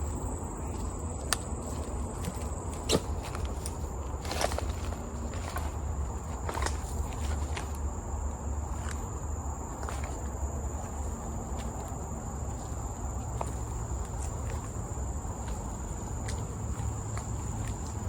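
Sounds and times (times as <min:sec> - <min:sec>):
footsteps on forest litter: 0:00.0 - 0:18.0
insect chorus: 0:00.0 - 0:18.0.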